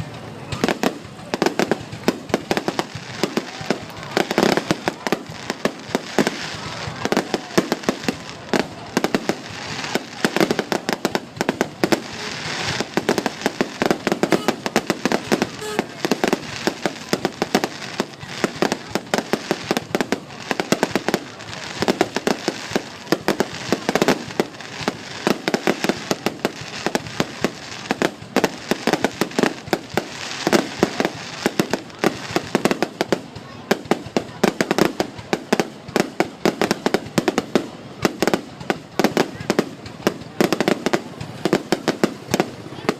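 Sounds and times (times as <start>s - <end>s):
fireworks cracks and bangs: 0.0s - 42.9s.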